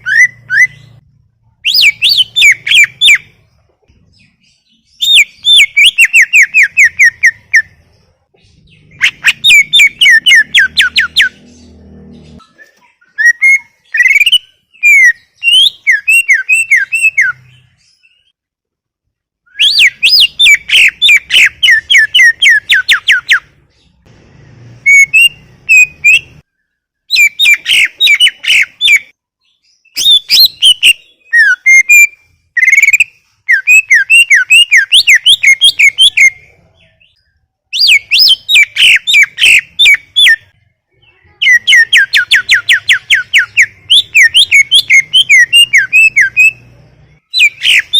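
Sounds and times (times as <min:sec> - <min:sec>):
bird singing whistled chirps: 0:00.0 - 0:01.0, 0:01.6 - 0:03.4, 0:04.1 - 0:07.8, 0:08.6 - 0:18.4, 0:19.4 - 0:23.5, 0:24.8 - 0:40.5, 0:41.4 - 0:47.9.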